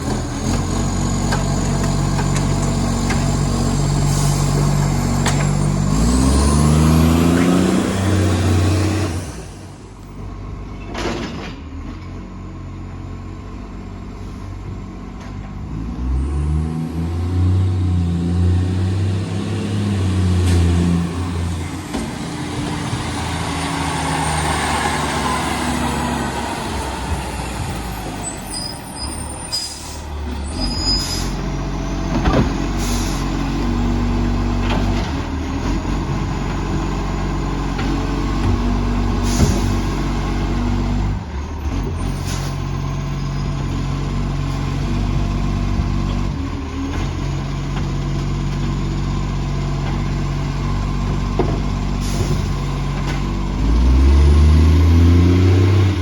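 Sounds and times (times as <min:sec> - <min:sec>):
garbage truck diesel engine revving: 0:00.0 - 0:10.6, 0:15.5 - 0:56.0.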